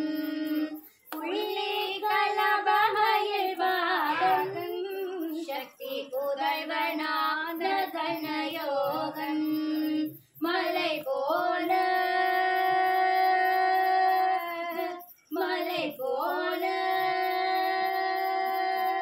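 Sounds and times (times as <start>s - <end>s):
woman singing devotional song: 0.0s - 19.0s.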